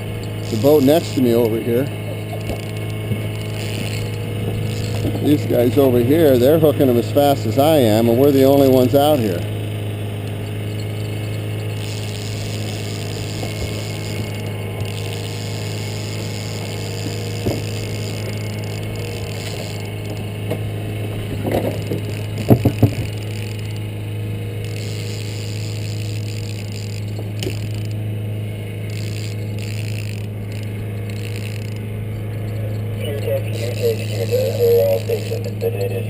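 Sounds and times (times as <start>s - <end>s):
boat motor running: 0.0s - 36.0s.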